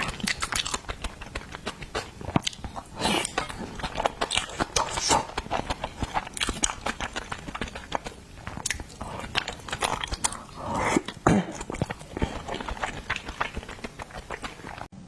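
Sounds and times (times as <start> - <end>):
chewing seafood with wet crunches: 0.0 - 14.9.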